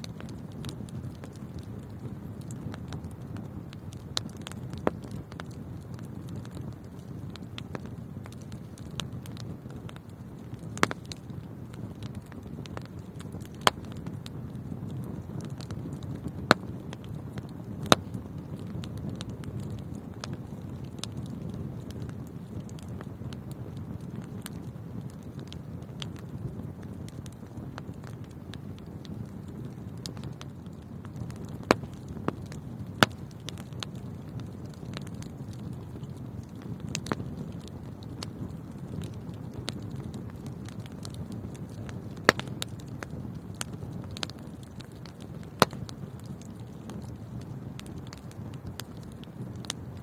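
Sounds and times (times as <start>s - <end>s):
low rumble of burning: 0.0s - 50.0s
sharp pops from fire: 0.0s - 50.0s
wood fire crackling: 0.0s - 50.0s.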